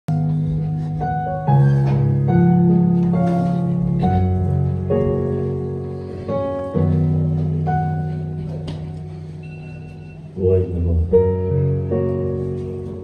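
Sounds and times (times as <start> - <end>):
gospel piano chords: 0.1 - 13.0.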